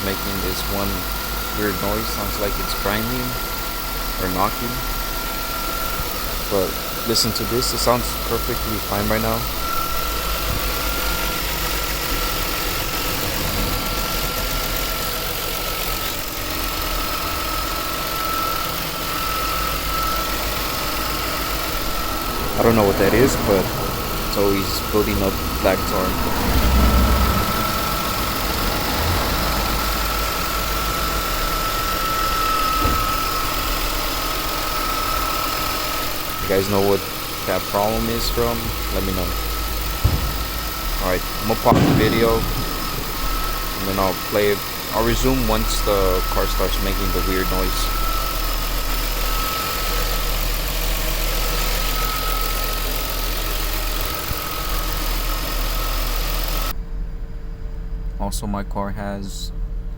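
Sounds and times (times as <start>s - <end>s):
thin high whine: 0.0s - 56.8s
car engine idling: 0.0s - 59.0s.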